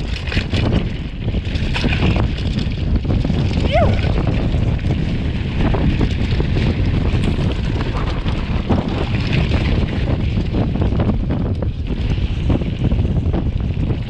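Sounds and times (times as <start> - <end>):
bike tyres knocking and rattling: 0.0 - 14.0
wind buffeting microphone: 0.0 - 14.0.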